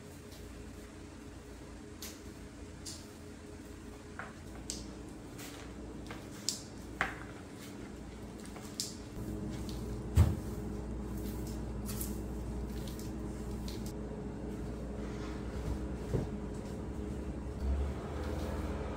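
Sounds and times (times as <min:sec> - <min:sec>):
broom sweeping tiled floor: 0:00.0 - 0:18.9
steady low hum: 0:00.0 - 0:18.9.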